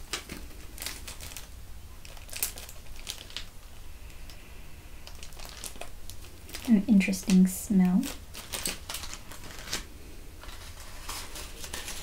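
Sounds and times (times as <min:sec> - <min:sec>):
plastic packet crinkling: 0:00.0 - 0:04.4, 0:05.0 - 0:12.0.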